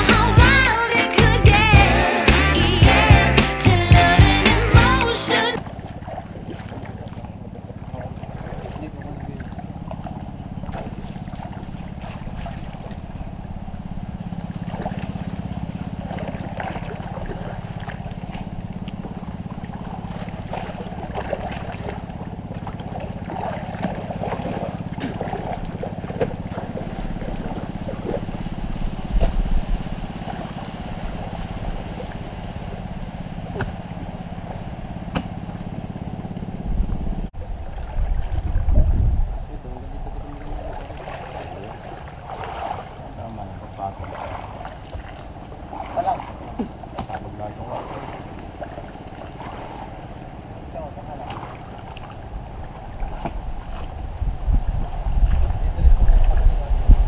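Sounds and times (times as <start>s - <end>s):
steady low drone: 0.0s - 57.0s
water sloshing and splashing: 4.8s - 57.0s.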